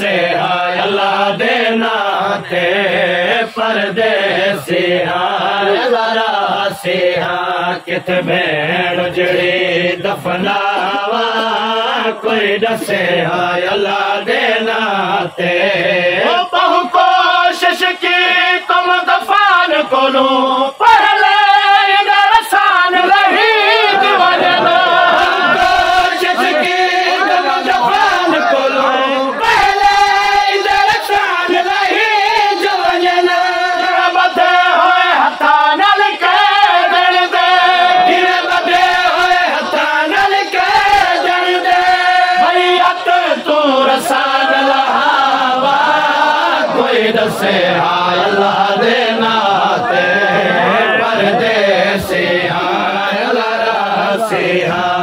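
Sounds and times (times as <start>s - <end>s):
men chanting a lament: 0.0s - 55.0s.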